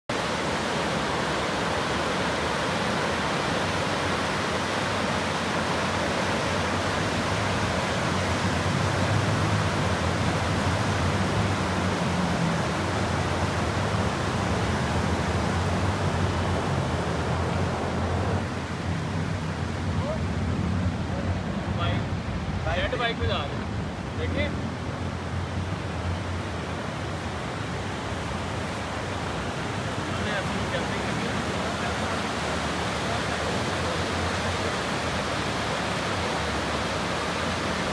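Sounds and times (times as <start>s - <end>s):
rushing wind noise: 0.1s - 37.9s.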